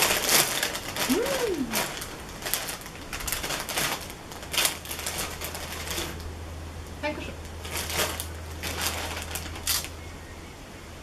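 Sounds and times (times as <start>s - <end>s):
plastic chip bag crinkling: 0.0s - 6.3s, 7.4s - 10.0s.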